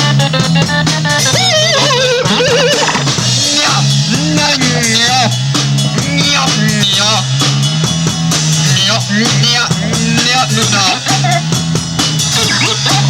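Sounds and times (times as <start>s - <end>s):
drums: 0.0s - 13.0s
live rock band: 0.0s - 13.0s.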